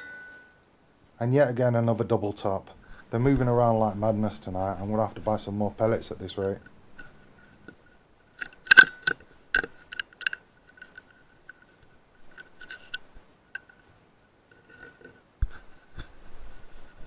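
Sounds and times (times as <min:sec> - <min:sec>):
faint electronic whine: 0:00.0 - 0:17.0.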